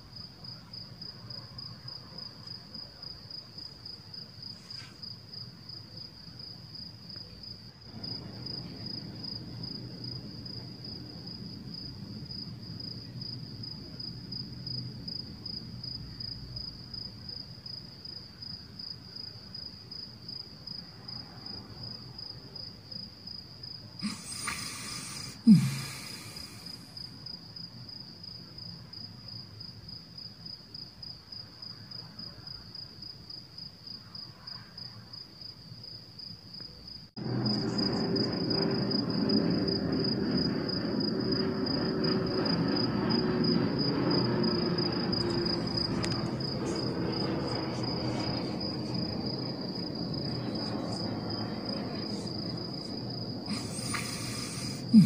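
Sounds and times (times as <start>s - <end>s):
cricket trilling: 0.2s - 31.9s, 33.6s - 55.0s.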